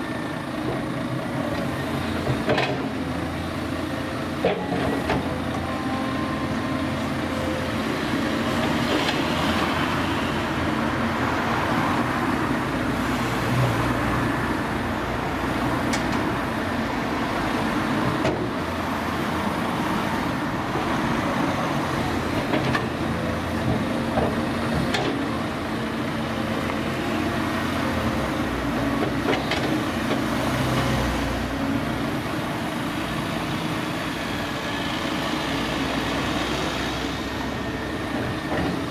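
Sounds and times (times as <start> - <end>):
excavator diesel engine running: 0.0 - 38.9
cars passing: 5.7 - 38.9.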